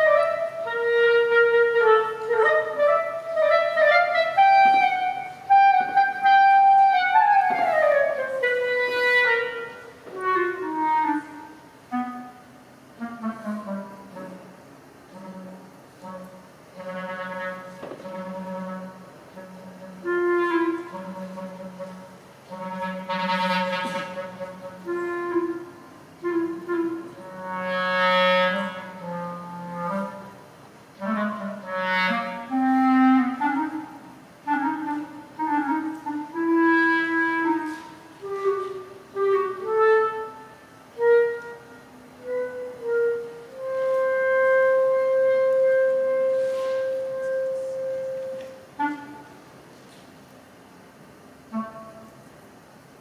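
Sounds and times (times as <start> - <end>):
solo clarinet playing: 0.0 - 49.7, 51.4 - 52.4.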